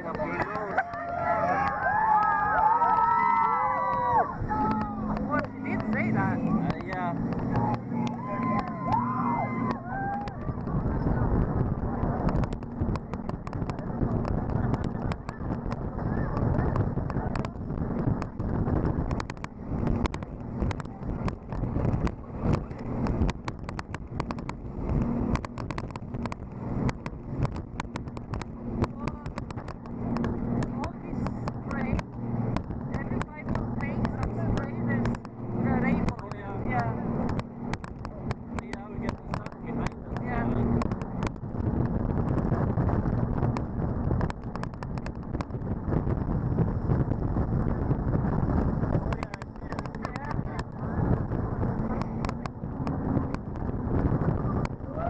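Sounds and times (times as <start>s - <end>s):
boat wind and water rush: 0.0s - 55.0s.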